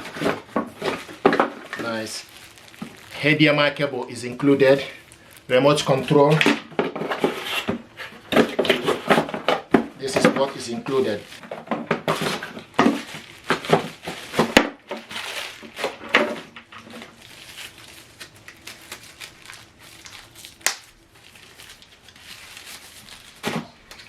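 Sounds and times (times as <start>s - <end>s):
packaging crinkling and rustling: 0.0s - 24.0s.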